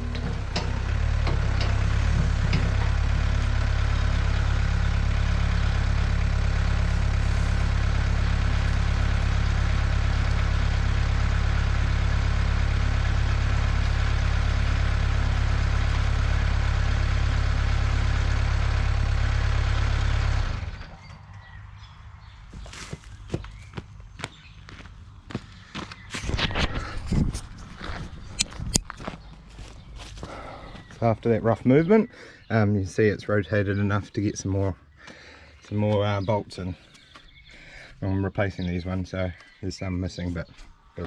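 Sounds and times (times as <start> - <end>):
diesel digger engine running: 0.0 - 39.5.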